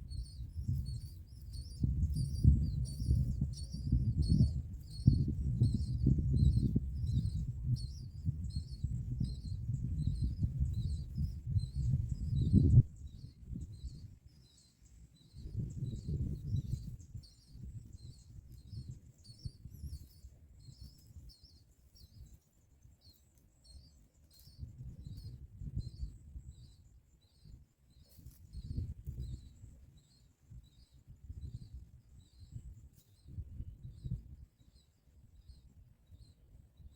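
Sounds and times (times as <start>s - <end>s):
bird chirping: 0.0s - 36.9s.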